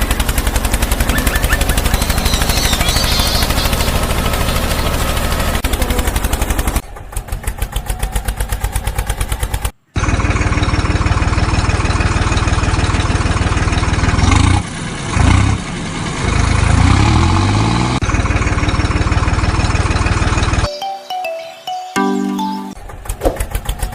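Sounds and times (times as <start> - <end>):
engine rattling and revving: 0.0 - 20.7, 22.8 - 23.9.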